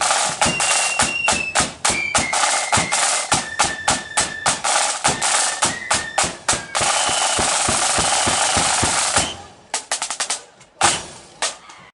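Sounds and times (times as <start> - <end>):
snare drum roll: 0.0 - 11.6.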